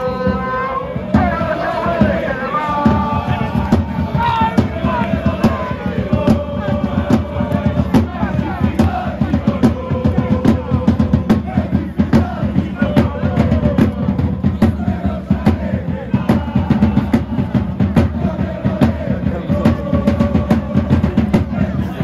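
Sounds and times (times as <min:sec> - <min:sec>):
bass drums beating: 0:00.0 - 0:22.0
crowd chanting in unison: 0:00.0 - 0:22.0.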